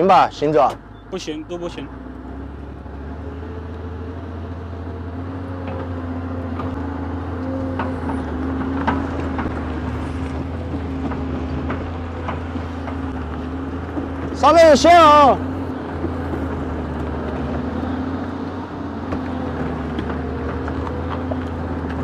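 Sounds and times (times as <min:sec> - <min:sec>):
excavator diesel engine under load: 0:00.0 - 0:22.0.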